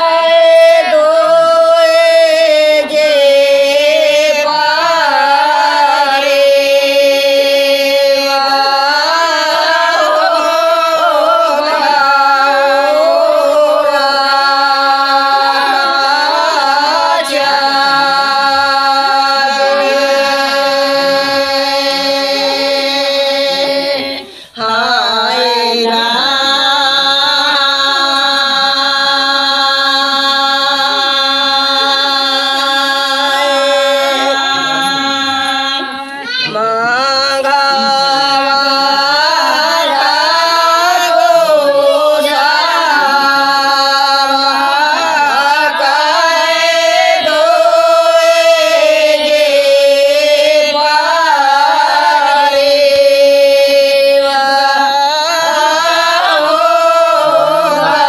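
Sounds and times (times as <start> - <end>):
women singing: 0.0 - 58.0.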